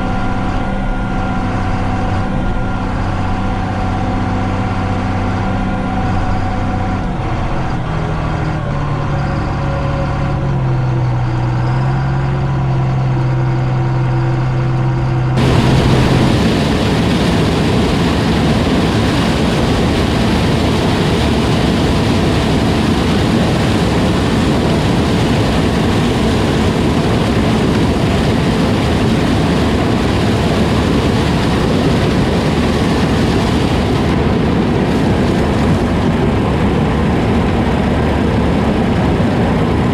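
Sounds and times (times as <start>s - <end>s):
combine diesel engine running: 0.0s - 39.9s
loud mechanical rumble: 0.0s - 39.9s.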